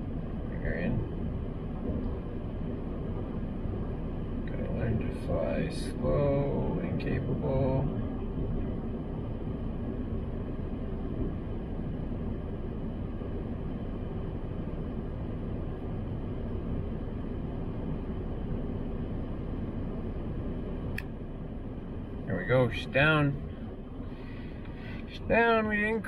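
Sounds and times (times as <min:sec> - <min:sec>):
car cabin rumble and hiss: 0:00.0 - 0:26.0.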